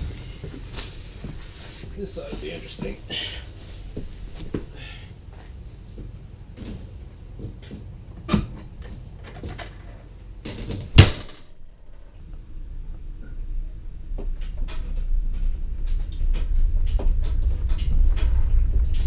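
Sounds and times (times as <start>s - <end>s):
low road rumble: 0.0s - 19.0s.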